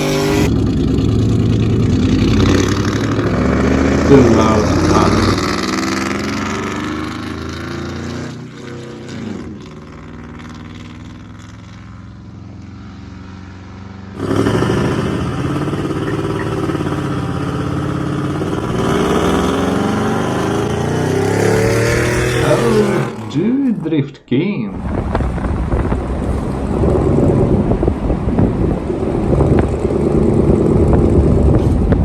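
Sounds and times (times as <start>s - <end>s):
truck engine revving: 0.0s - 24.1s, 24.7s - 32.0s
truck engine with loud exhaust: 0.0s - 24.1s, 24.7s - 32.0s.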